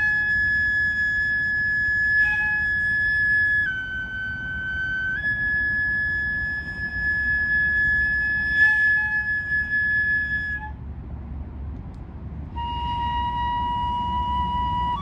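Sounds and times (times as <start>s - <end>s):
bamboo flute long notes: 0.0s - 10.8s, 12.5s - 15.0s
low rumble: 0.0s - 15.0s.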